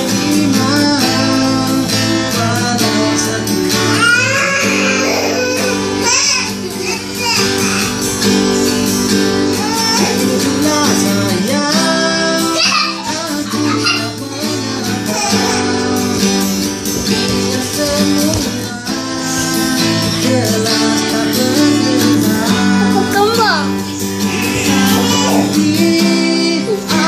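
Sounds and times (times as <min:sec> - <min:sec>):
acoustic guitar strumming: 0:00.0 - 0:27.0
person singing: 0:00.0 - 0:27.0.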